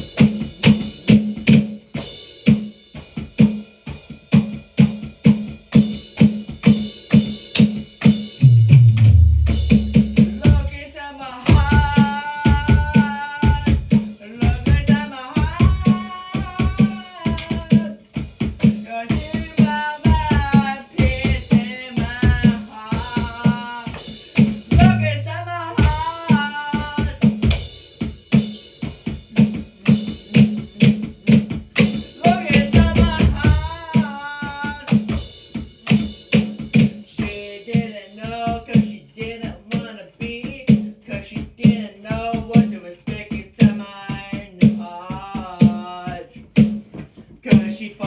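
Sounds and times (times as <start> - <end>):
instrumental music with drum beat: 0.0 - 48.0.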